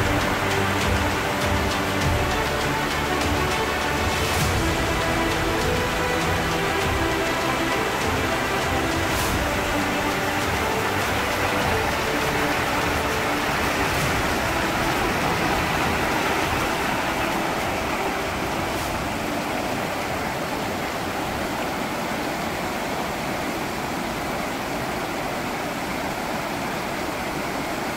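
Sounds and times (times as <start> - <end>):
stream and waterfall rushing: 0.0 - 27.9.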